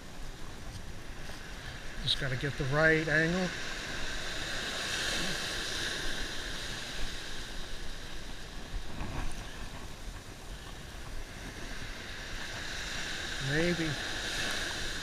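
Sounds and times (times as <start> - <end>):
surf washing up sand: 0.0 - 15.0
wind rumbling on microphone: 0.0 - 15.0.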